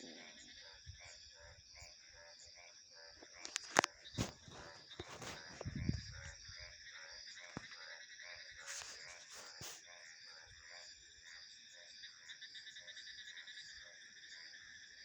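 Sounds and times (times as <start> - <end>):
crickets trilling: 0.0 - 15.0
frogs calling: 0.0 - 15.0.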